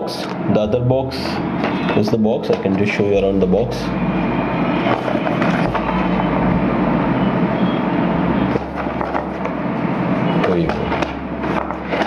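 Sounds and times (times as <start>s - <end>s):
loud low humming noise: 0.0s - 12.0s.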